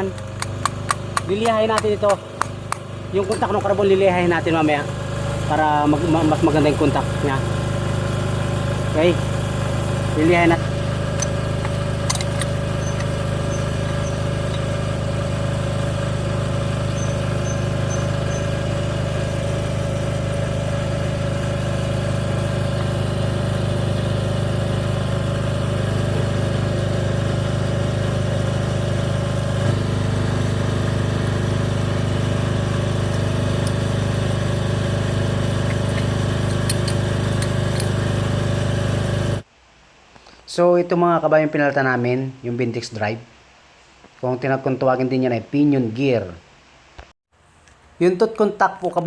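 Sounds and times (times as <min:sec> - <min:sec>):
engine idling: 0:00.0 - 0:39.4.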